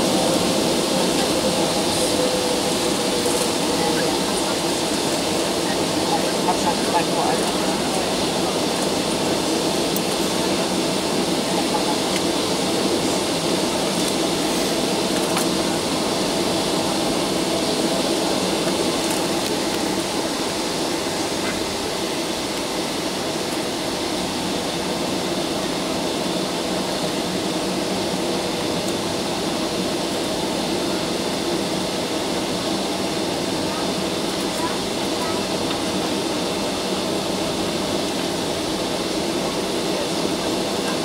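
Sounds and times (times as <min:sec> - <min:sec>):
jet engines at low thrust: 0:00.0 - 0:41.0.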